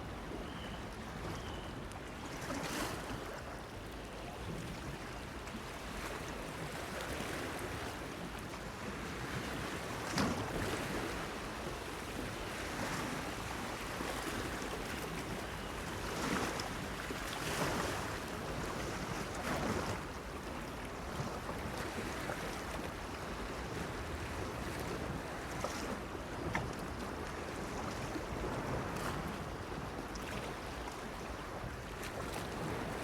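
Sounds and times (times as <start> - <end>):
small waves splashing against pier: 0.1 - 33.0.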